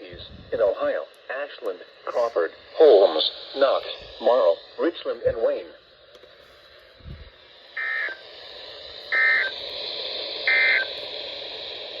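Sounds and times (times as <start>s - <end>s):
buzzy data tone bursts: 0.0s - 5.9s, 7.6s - 12.0s
radio hiss: 0.0s - 12.0s.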